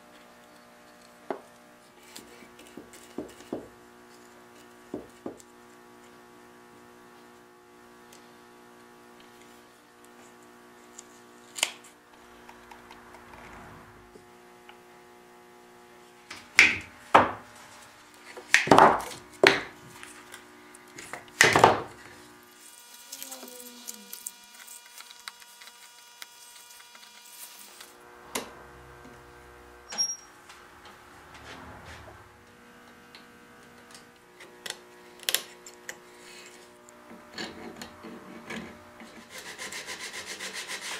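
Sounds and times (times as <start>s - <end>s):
workshop hum: 0.0s - 40.9s.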